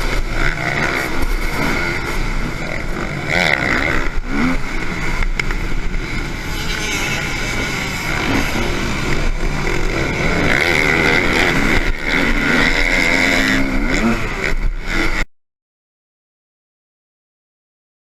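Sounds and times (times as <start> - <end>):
motocross bike engines revving: 0.0 - 15.3.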